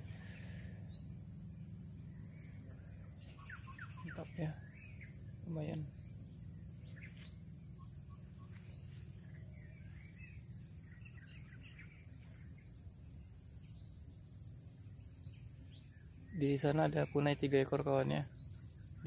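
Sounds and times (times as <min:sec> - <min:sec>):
faint bird chirps: 0:00.0 - 0:19.0
high-pitched insect drone: 0:00.0 - 0:19.0
low steady rumble: 0:00.0 - 0:19.0.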